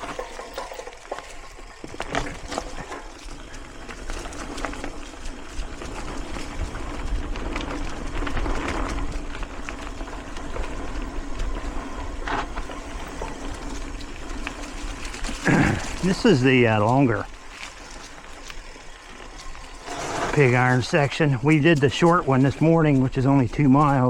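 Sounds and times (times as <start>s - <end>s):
bike clicks and rattles: 0.0s - 24.0s
bike tyres on dirt trail: 0.0s - 24.0s.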